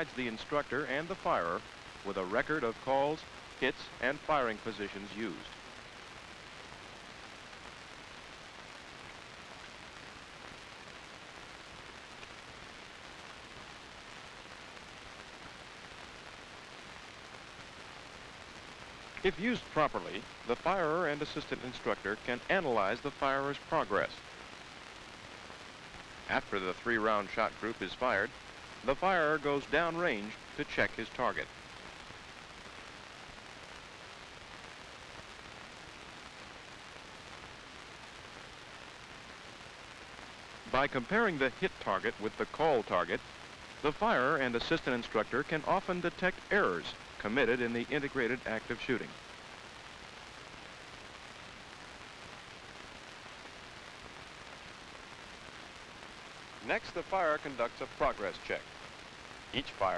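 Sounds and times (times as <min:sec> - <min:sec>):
film soundtrack hiss: 0:00.0 - 0:59.9.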